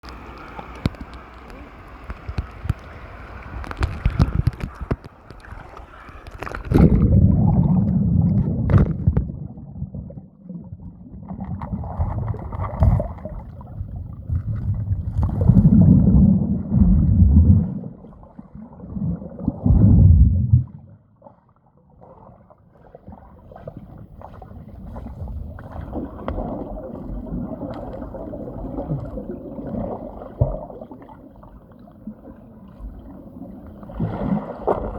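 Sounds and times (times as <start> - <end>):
muffled underwater sloshing: 0.0 - 34.9
water splashing and gurgling: 0.0 - 34.9.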